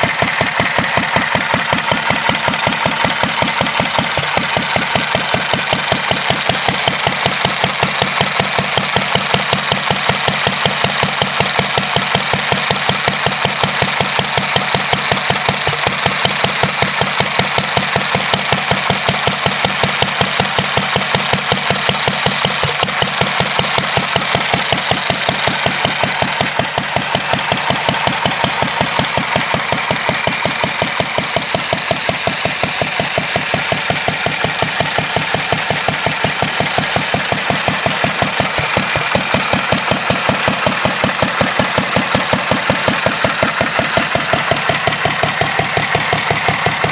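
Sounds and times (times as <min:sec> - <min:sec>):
stationary engine running: 0:00.0 - 0:46.9.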